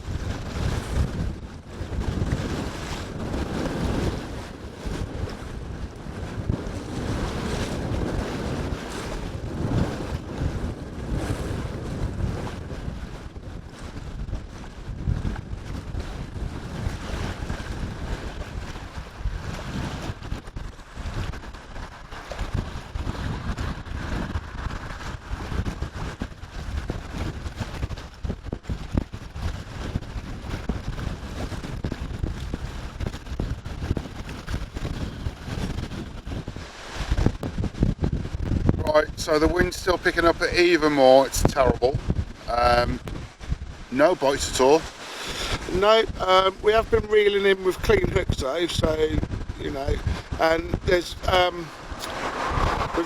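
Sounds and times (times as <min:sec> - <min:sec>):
gusty wind buffeting microphone: 0:00.0 - 0:53.0.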